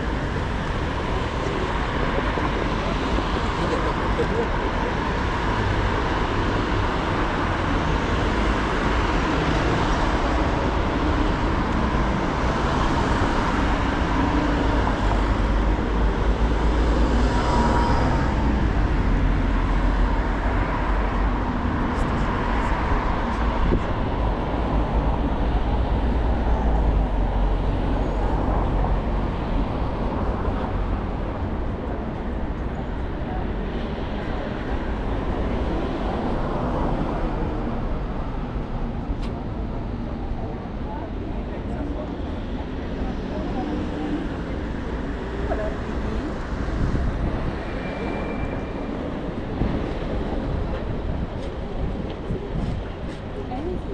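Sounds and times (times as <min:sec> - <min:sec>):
road vehicle rumble: 0:00.0 - 0:53.9
traffic: 0:00.0 - 0:53.9.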